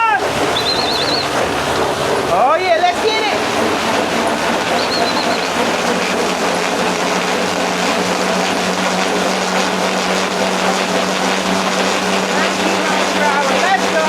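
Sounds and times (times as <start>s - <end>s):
dog running on treadmill: 0.0s - 14.0s
treadmill mechanical hum: 0.0s - 14.0s.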